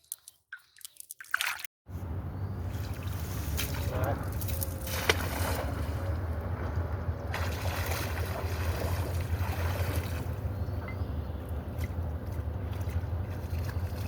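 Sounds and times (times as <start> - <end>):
water noise: 0.0 - 14.0
wind: 0.0 - 14.0
low rumble: 1.9 - 14.0.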